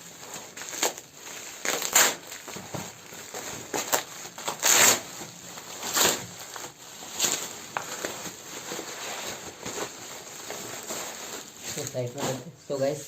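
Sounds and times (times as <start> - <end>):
packaging wrap crinkling: 0.0 - 12.6.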